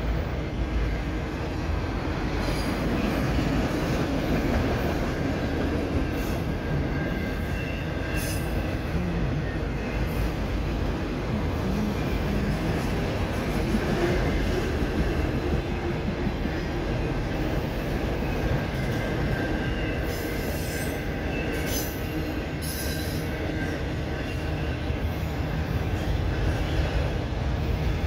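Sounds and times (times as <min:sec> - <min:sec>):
steel wheels rumbling on rails: 0:00.0 - 0:28.0.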